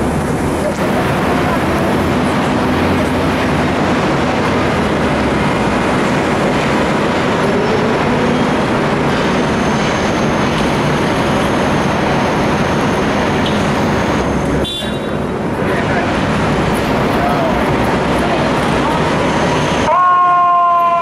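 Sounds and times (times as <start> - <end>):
fire engine diesel rumbling: 0.0 - 21.0
street traffic noise: 0.0 - 21.0.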